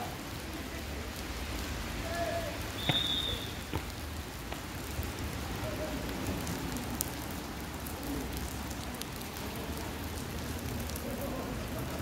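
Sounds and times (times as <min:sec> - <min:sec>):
steady rain hiss: 0:00.0 - 0:12.0
raindrop ticks: 0:00.1 - 0:12.0.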